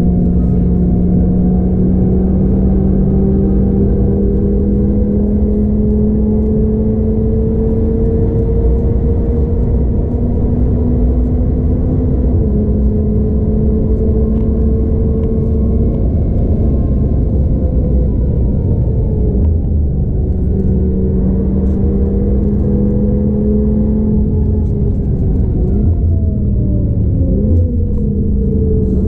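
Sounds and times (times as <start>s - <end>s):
car engine at full throttle: 0.0s - 29.0s
gear change: 0.0s - 29.0s
wind and tyre roar: 0.0s - 29.0s.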